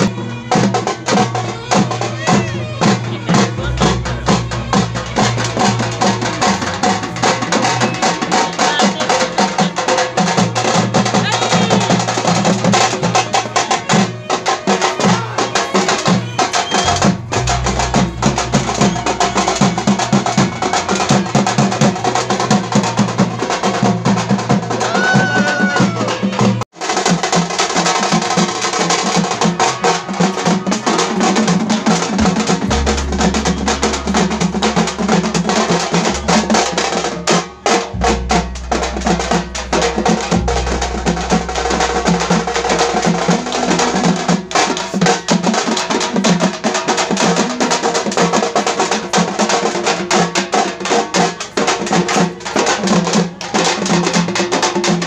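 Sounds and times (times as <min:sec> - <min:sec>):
frame drums beaten with sticks: 0:00.0 - 0:55.0.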